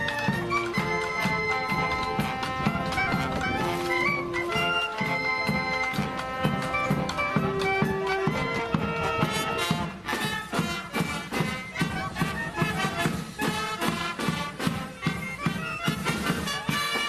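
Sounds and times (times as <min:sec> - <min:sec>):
brass playing the tune: 0:00.0 - 0:17.0
drums keeping a steady beat: 0:00.0 - 0:17.0
marching band playing a march: 0:00.0 - 0:17.0.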